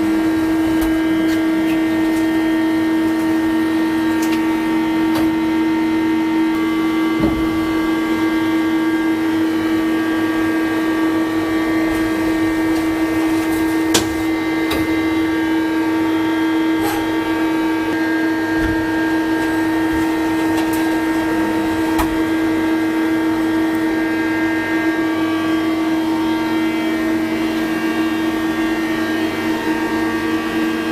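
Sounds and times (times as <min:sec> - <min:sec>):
lathe humming: 0:00.0 - 0:30.9.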